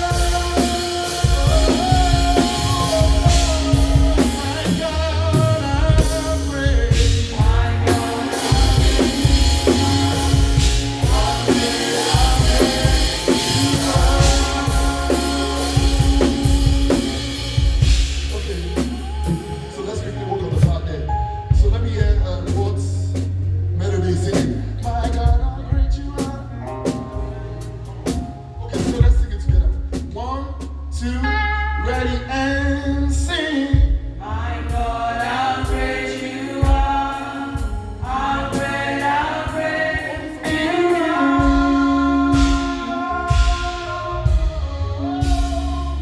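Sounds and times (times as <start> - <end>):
voices singing gospel: 0.0 - 30.3, 31.0 - 46.0
band with drum kit and bass: 0.0 - 46.0.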